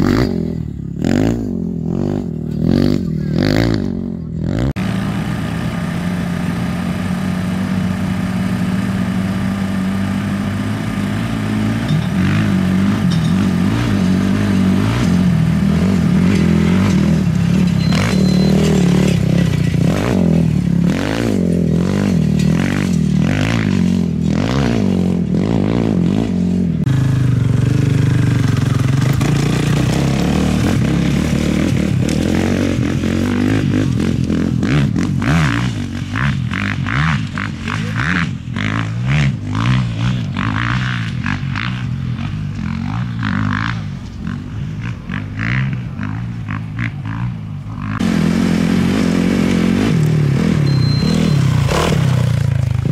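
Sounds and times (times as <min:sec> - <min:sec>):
quad engine revving: 0:00.0 - 0:52.9.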